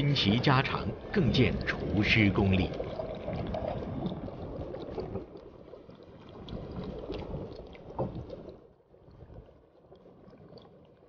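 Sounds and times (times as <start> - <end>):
broth sloshing and dripping: 0.0 - 11.0.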